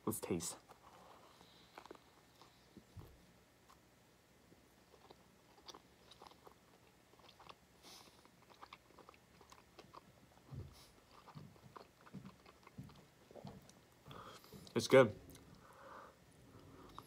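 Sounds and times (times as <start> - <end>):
close-up chewing: 0.6 - 17.0.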